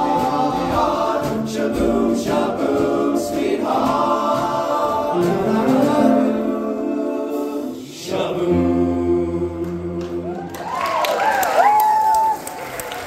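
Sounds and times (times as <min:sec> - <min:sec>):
men's choir singing in harmony: 0:00.0 - 0:10.6.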